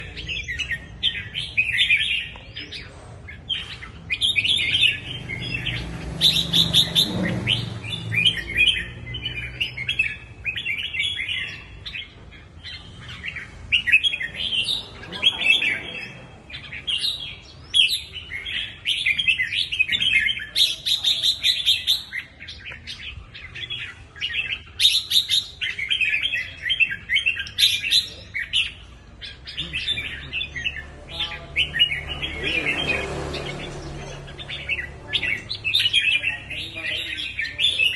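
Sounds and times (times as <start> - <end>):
bird chirping song: 0.0 - 37.9.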